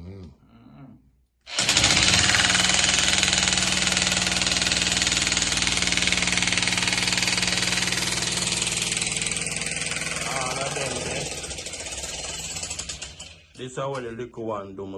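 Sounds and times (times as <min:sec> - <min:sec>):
jackhammer hammering: 0:01.5 - 0:13.6.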